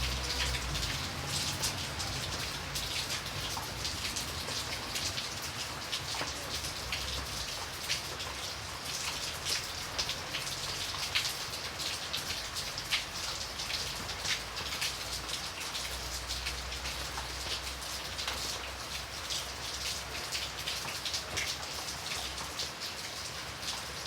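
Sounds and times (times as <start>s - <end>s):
raindrops pattering on a surface: 0.0s - 24.0s
steady rain hiss: 0.0s - 24.0s.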